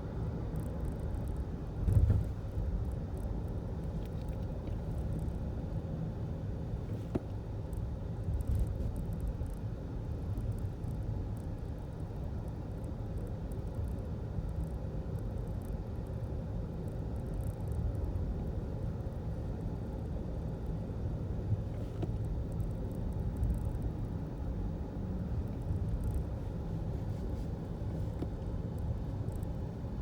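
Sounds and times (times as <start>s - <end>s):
road rumble: 0.0s - 30.0s.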